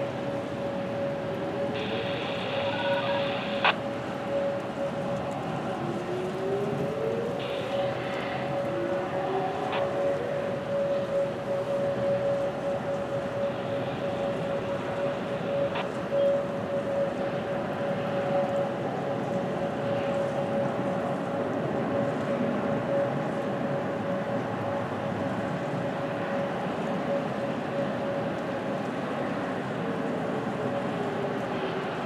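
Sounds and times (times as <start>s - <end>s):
lower siren tone: 0.0s - 32.0s
steady warning siren tone: 0.0s - 32.0s.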